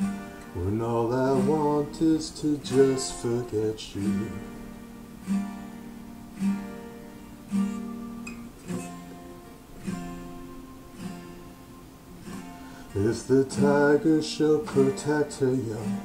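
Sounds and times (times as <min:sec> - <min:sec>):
acoustic guitar strummed slowly: 0:00.0 - 0:16.0.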